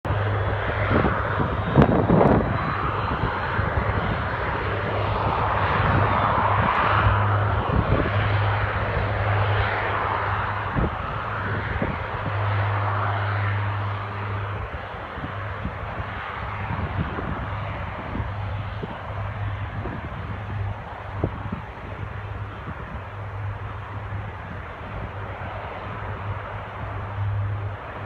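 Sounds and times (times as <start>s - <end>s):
turboprop engines droning: 0.0s - 28.0s.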